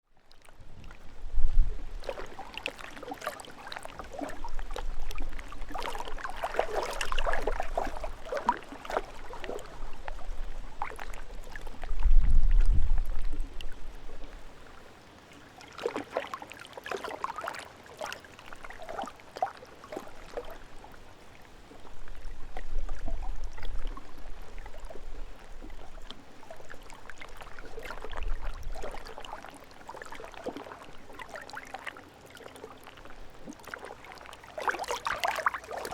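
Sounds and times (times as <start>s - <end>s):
water splashes and gurgles: 0.0s - 35.9s
low water surge: 0.1s - 35.9s
lake water lapping: 0.2s - 35.9s.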